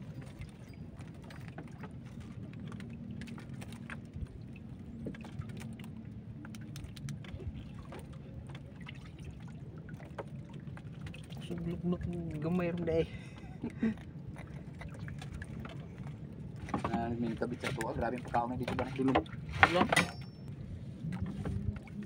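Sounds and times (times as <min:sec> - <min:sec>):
low steady hum: 0:00.0 - 0:22.0
water lapping and trickling: 0:00.0 - 0:22.0.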